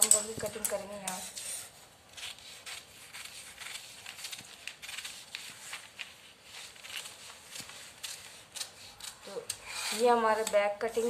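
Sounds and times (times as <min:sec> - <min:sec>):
paper rustling and crinkling: 0:00.0 - 0:09.4
scissors snipping paper: 0:00.0 - 0:11.0.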